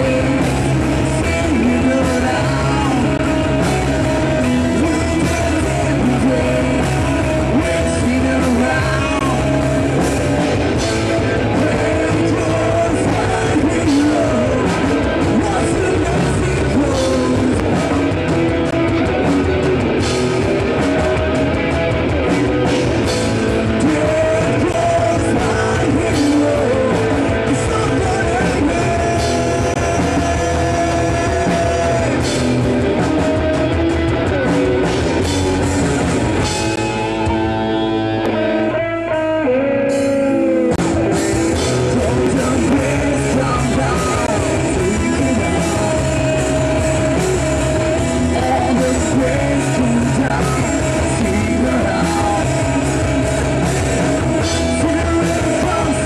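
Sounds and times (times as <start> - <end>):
person singing: 0.0 - 19.6, 20.6 - 56.0
rock band playing live: 0.0 - 56.0.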